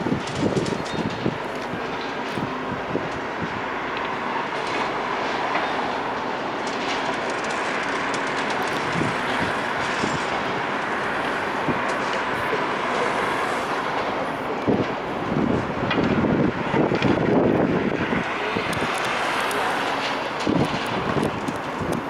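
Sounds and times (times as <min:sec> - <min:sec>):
demolition machinery rumbling: 0:00.0 - 0:22.0.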